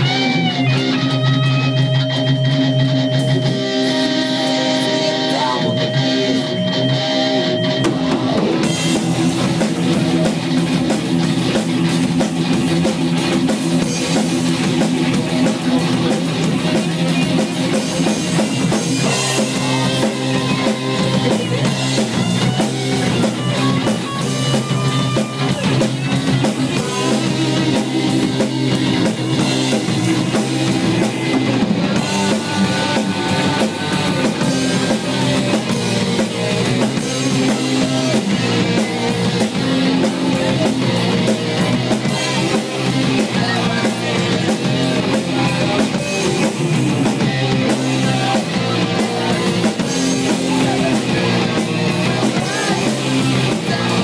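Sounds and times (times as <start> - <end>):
bass guitar: 0.0 - 54.0
distorted electric guitar riffing: 0.0 - 54.0
drum kit with cymbals: 0.0 - 54.0.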